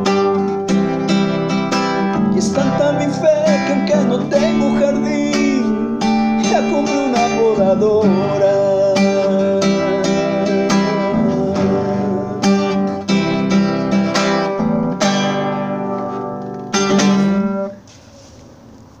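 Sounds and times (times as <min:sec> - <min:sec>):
classical guitar strumming: 0:00.0 - 0:17.9.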